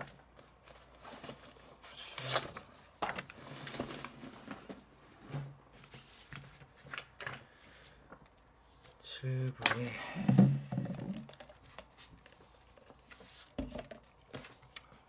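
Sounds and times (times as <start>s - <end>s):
rustling and handling noise: 0.0s - 15.0s.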